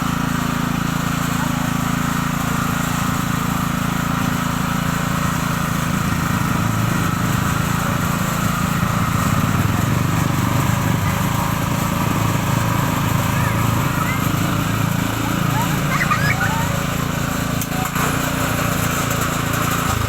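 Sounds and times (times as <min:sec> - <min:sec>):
small tiller engine running: 0:00.0 - 0:20.0.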